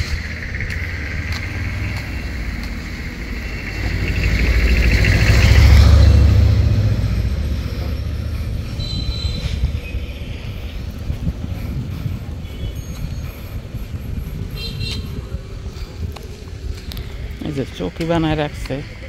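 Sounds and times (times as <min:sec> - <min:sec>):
vehicle passing by: 0:00.0 - 0:17.6.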